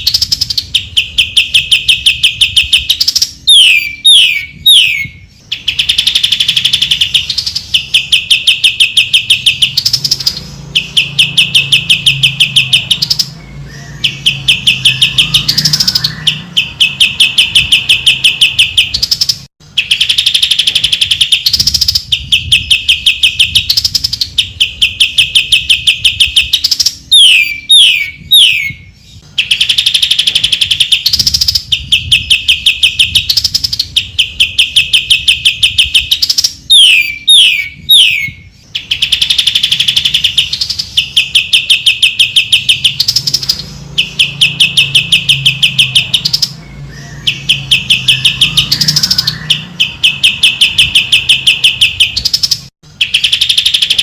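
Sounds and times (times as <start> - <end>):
bird singing trilled phrases: 0.0 - 54.0.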